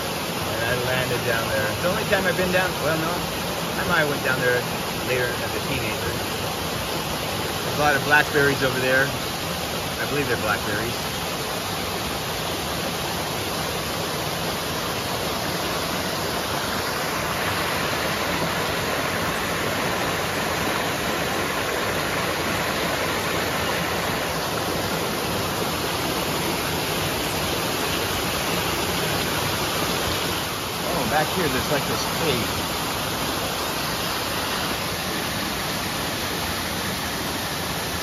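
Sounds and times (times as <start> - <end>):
waterfall rushing over rock: 0.0 - 38.0.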